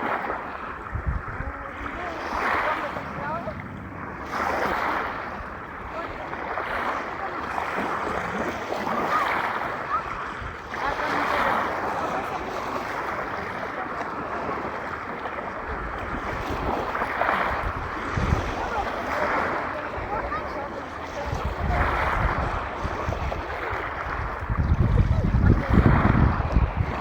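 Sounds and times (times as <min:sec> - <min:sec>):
sea waves washing onto beach: 0:00.0 - 0:27.0
wind on microphone: 0:00.0 - 0:27.0.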